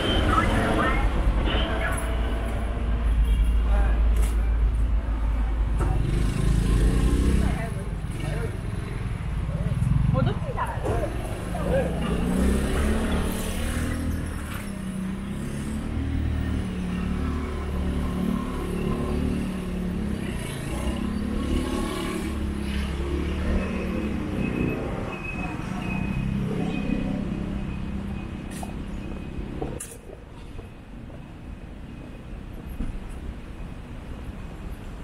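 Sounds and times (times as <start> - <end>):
traffic engine rumble: 0.0 - 35.0.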